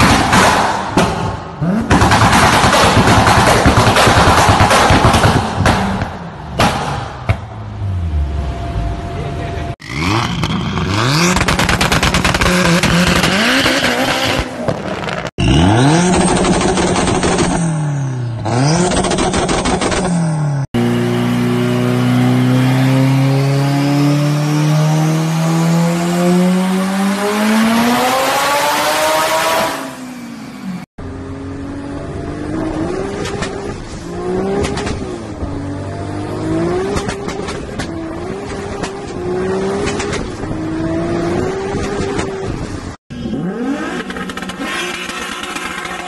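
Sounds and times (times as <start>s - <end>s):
turbocharged car engine revving: 7.0s - 46.0s.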